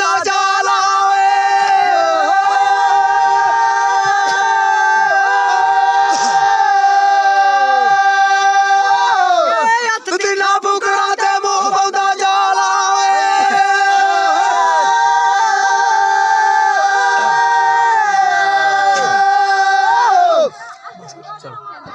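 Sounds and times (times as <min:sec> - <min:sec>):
young men singing unaccompanied: 0:00.0 - 0:20.6.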